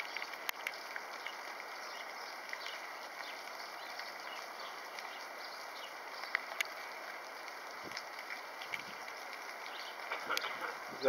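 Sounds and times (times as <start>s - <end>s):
sharp ticks and clicks: 0.0s - 5.2s, 6.1s - 10.7s
steady outdoor hiss: 0.0s - 11.0s.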